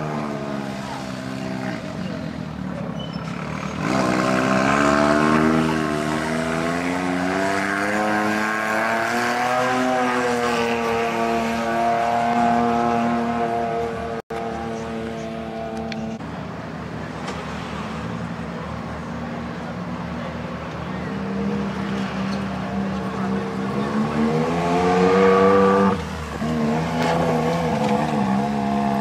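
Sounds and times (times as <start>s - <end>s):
engine running hard: 0.0s - 29.0s.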